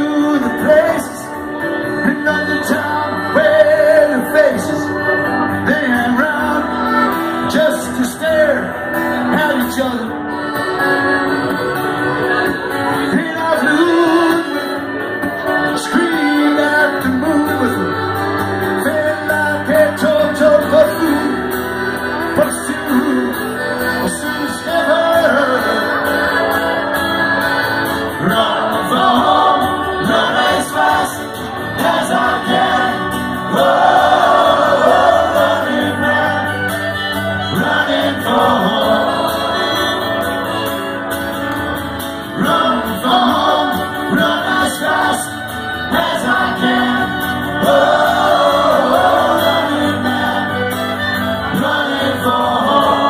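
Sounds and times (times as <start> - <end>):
man singing: 0.0 - 10.4, 12.9 - 21.5, 22.1 - 26.8, 28.2 - 36.7, 42.3 - 53.0
accordion: 0.0 - 53.0
acoustic guitar: 0.0 - 53.0
fiddle: 0.0 - 53.0.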